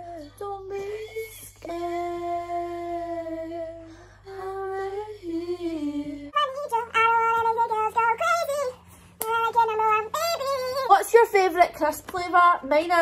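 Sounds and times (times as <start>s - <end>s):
girl singing wordless notes: 0.0s - 13.0s
low hum: 0.0s - 13.0s.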